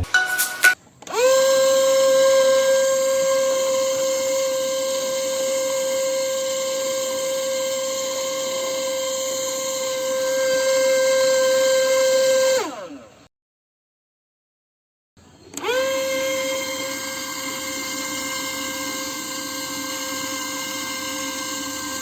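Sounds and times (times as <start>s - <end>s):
vacuum cleaner motor whining: 1.0s - 13.3s, 15.2s - 22.0s.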